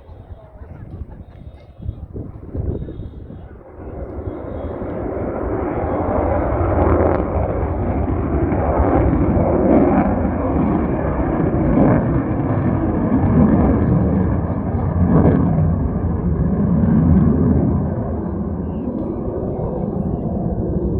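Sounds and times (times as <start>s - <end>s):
fighter jet engine roar: 0.0s - 20.9s.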